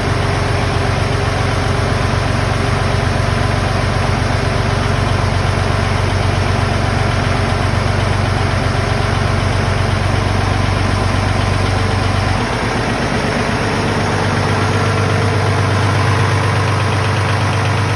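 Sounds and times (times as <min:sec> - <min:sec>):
tractor diesel engine idling: 0:00.0 - 0:17.9.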